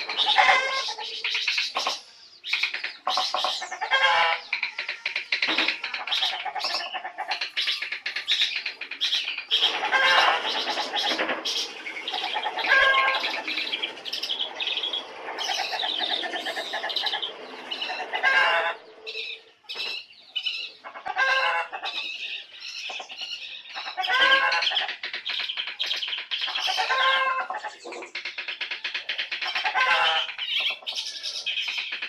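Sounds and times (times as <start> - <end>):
songbirds chirping and warbling: 0.0 - 32.0.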